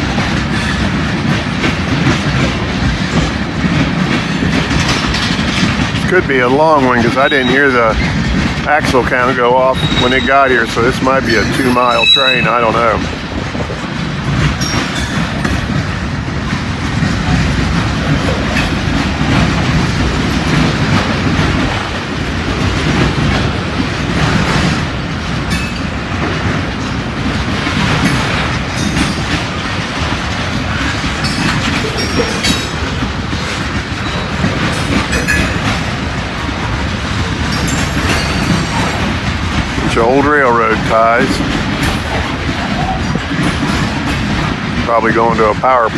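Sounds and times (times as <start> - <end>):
freight train rumbling past: 0.0 - 45.9
wheels clicking over rail joints: 0.0 - 45.9.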